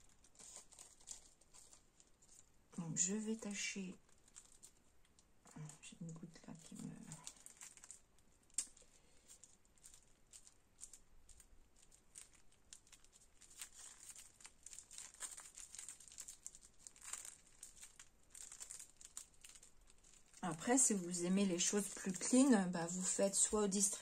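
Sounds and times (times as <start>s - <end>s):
plastic sheet crinkling: 0.0s - 24.0s.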